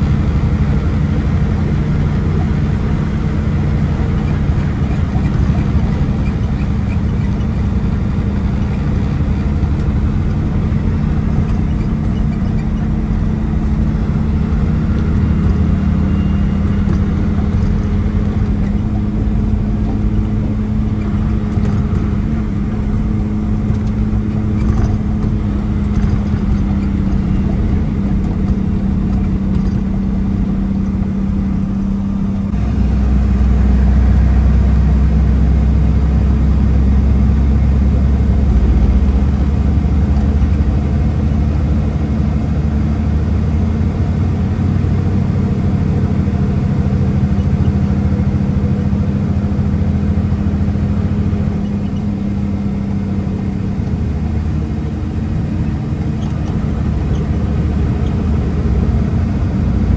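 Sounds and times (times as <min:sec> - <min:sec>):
diesel truck engine droning: 0:00.0 - 0:59.9
road noise: 0:00.0 - 0:59.9.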